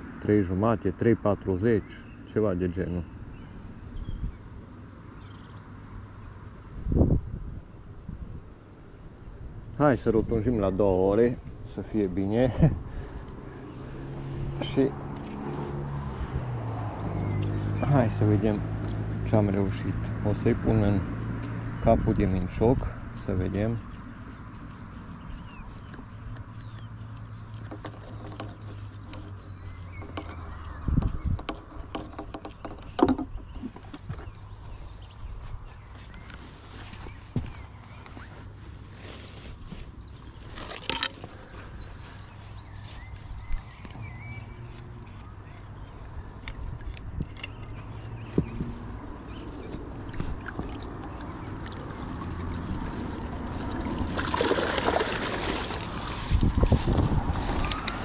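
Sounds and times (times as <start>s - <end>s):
birds chirping: 0.0s - 6.5s, 9.2s - 58.0s.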